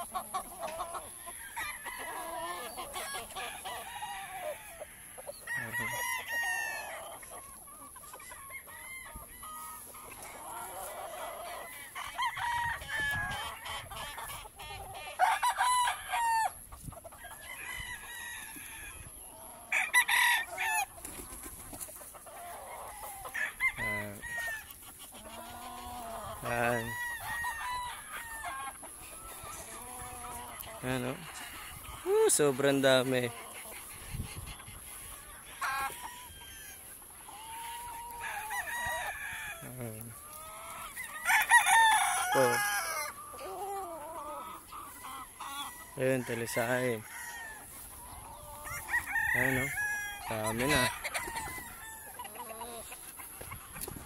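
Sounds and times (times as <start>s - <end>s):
roosters crowing and clucking: 0.0s - 54.0s.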